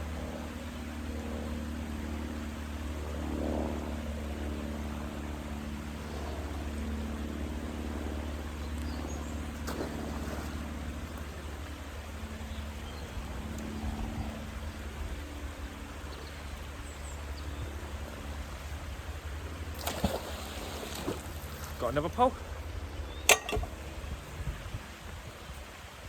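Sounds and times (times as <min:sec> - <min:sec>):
low engine drone: 0:00.0 - 0:25.3.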